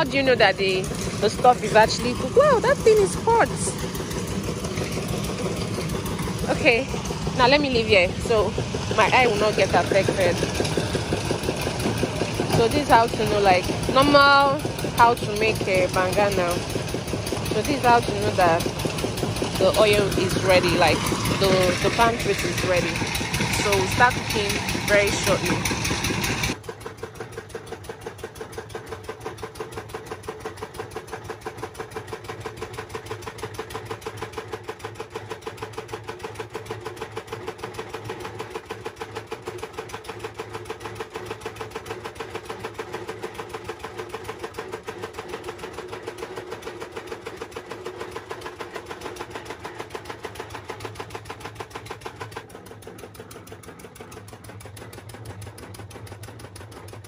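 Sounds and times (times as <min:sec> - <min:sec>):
milling machine engine running: 0:00.0 - 0:57.0.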